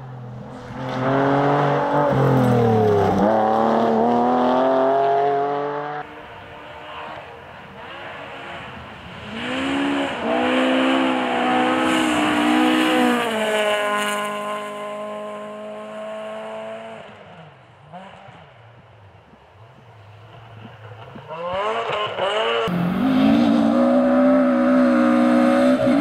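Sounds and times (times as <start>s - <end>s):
rally car engine revving: 0.1s - 17.3s, 20.6s - 26.0s.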